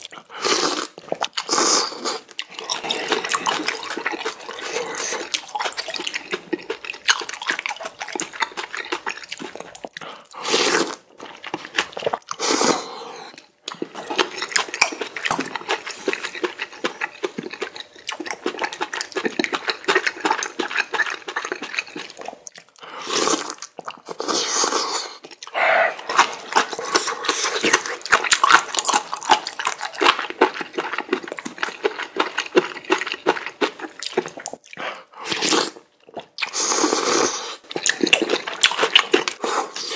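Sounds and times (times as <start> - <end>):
wet chewing and mouth clicks: 0.0 - 12.6, 13.2 - 39.9
noodle slurps: 0.4 - 17.5, 18.1 - 30.6, 34.4 - 39.9.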